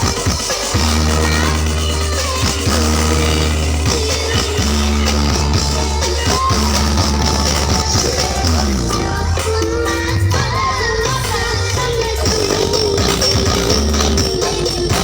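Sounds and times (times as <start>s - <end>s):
heavy bass line: 0.0s - 15.0s
loud music over sound system: 0.0s - 15.0s.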